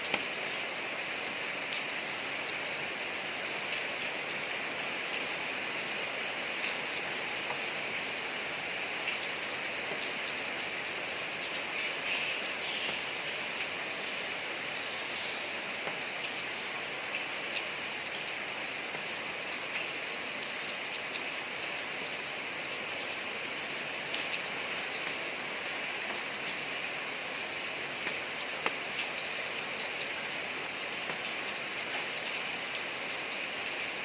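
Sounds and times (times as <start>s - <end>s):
rain hissing on street: 0.0s - 34.0s.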